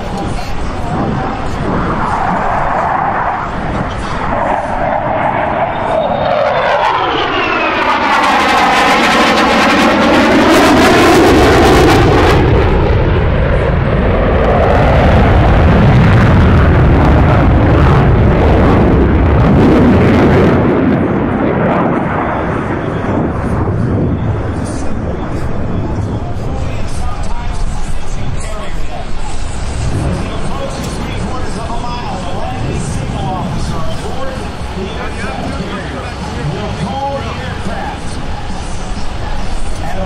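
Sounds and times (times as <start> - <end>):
jet engine roar with afterburner: 0.0 - 40.0
jet passing whoosh: 0.0 - 40.0.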